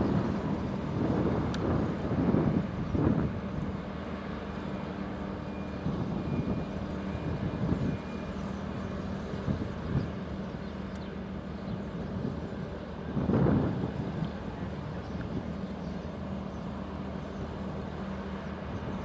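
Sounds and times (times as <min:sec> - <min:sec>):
wind gusts on microphone: 0:00.0 - 0:04.2, 0:05.7 - 0:10.6, 0:11.6 - 0:19.0
ship engine droning: 0:00.0 - 0:19.0.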